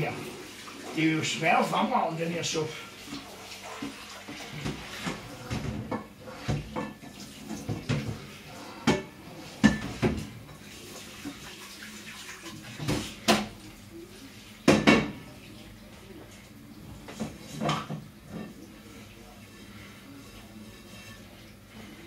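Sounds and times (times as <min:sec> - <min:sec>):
running tap water: 0:00.0 - 0:22.0.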